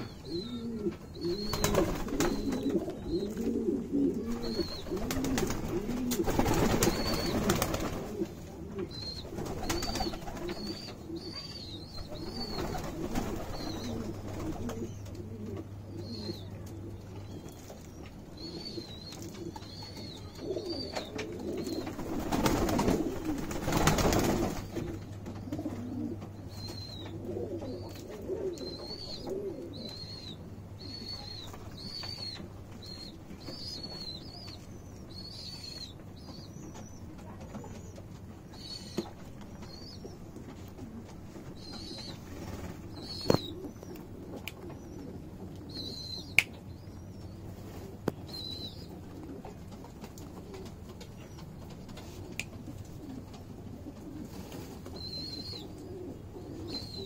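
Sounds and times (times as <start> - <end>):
pigeons cooing: 0.0 - 34.3, 40.5 - 57.0.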